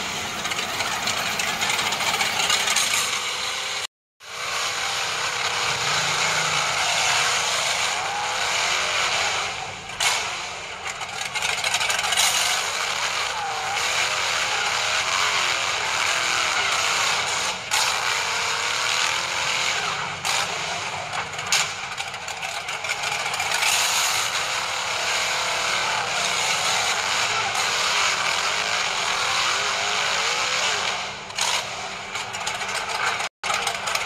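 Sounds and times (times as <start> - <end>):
toy car motor whining and grinding: 0.0 - 34.0.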